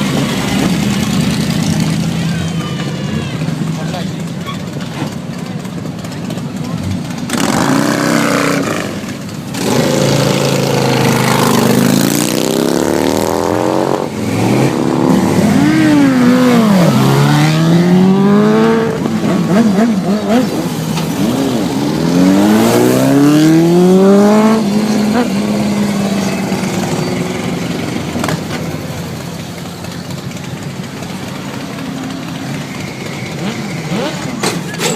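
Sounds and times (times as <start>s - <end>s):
car engines revving and accelerating: 0.0s - 34.9s.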